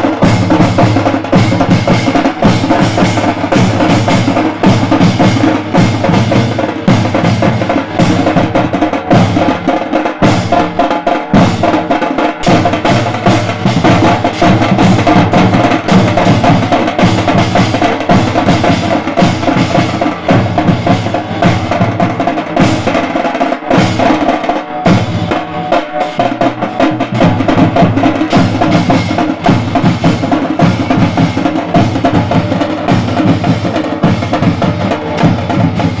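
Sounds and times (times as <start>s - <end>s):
loud fast drumming: 0.0s - 36.0s
street band playing: 0.0s - 36.0s.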